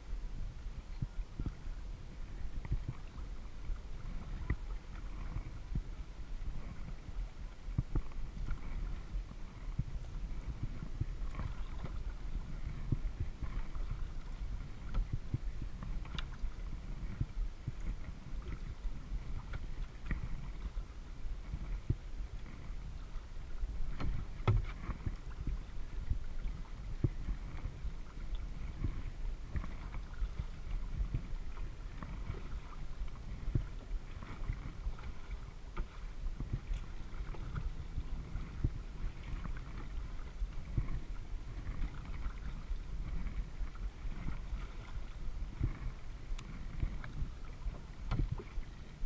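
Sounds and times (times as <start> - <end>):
water splashing against hull: 0.0 - 49.0.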